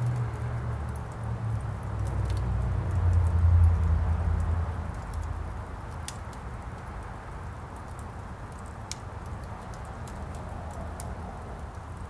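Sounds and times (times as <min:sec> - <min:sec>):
fire crackling and popping: 0:00.0 - 0:12.0
low rush of fire: 0:00.0 - 0:12.0.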